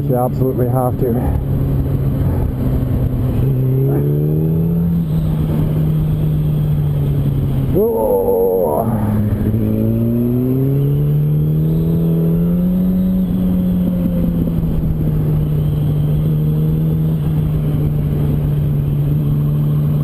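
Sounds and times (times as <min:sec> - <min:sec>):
motorcycle engine accelerating: 0:00.9 - 0:20.0.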